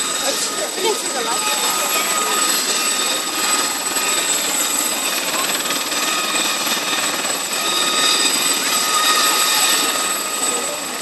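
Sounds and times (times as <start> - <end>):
helicopter rotor rushing: 0.0 - 11.0
helicopter turbine whine: 0.0 - 11.0.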